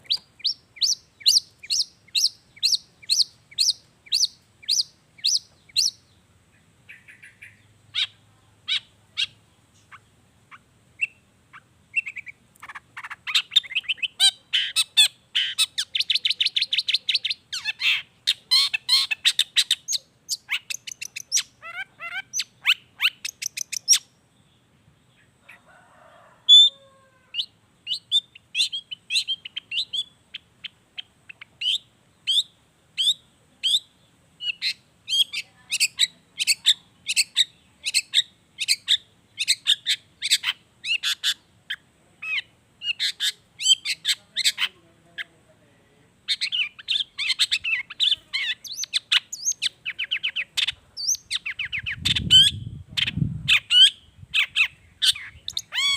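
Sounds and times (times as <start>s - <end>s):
bird fast chattering: 0.0s - 6.0s, 6.9s - 24.1s, 27.8s - 45.3s, 46.2s - 55.9s.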